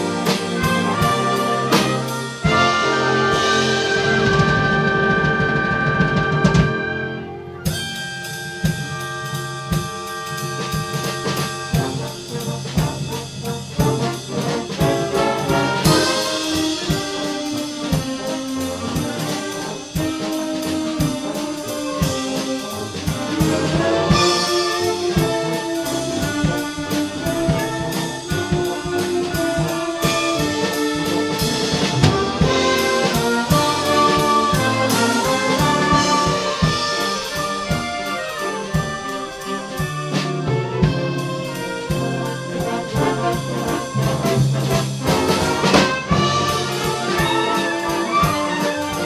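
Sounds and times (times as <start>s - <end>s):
steady percussion beat: 0.0s - 7.0s, 7.6s - 49.0s
brass carrying tune: 0.0s - 49.0s.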